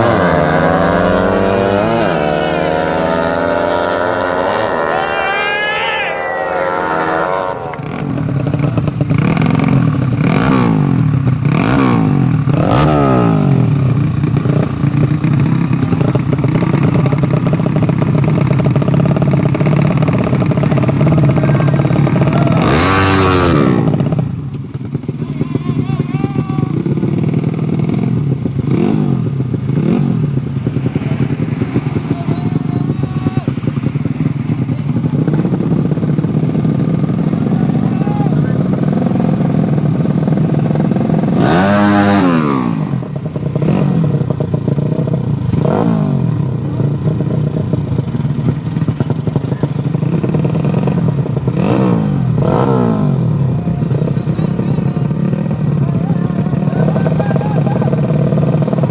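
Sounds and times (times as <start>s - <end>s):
motorcycle passing by: 0.0s - 47.4s, 48.5s - 58.9s
motorcycle engines revving: 0.0s - 58.9s.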